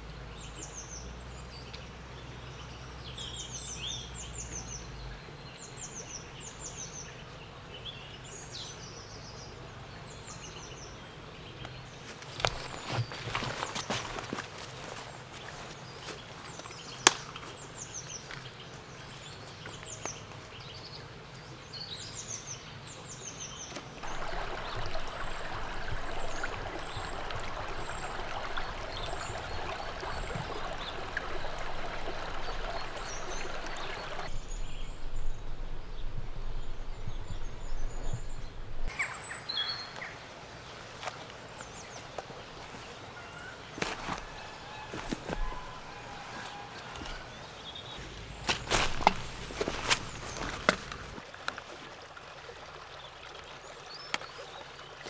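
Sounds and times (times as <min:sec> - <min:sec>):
small birds chirping: 0:00.0 - 0:51.2
stream babbling: 0:09.5 - 0:55.0.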